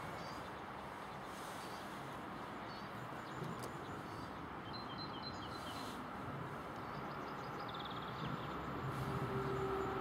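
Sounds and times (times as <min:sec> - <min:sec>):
birds chirping: 0:00.0 - 0:10.0
diesel locomotive engine rumble: 0:00.0 - 0:10.0.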